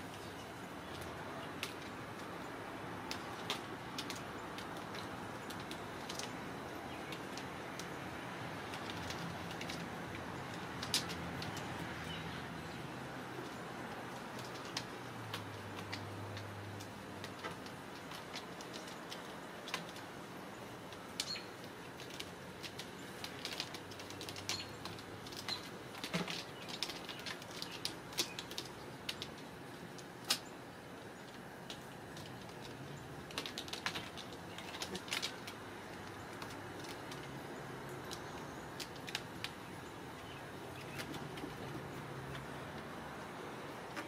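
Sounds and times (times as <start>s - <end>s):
claws clicking and scratching on wood: 0.0s - 44.0s
steady background noise: 0.0s - 44.0s.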